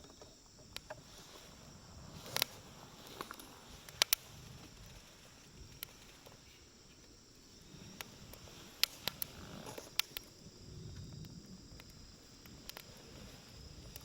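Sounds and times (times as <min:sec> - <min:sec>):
campfire crackling and popping: 0:01.8 - 0:14.0.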